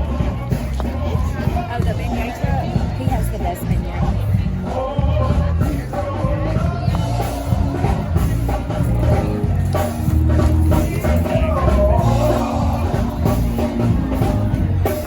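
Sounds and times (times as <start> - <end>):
drum kit: 0.0 - 15.0
heavy bass: 0.0 - 15.0
rock music: 0.0 - 15.0.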